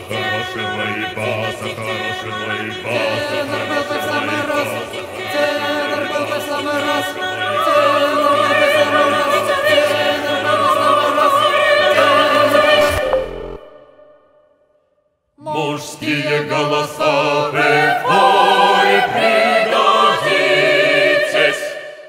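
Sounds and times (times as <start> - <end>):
mixed choir singing operatically: 0.0 - 14.2, 15.4 - 22.0.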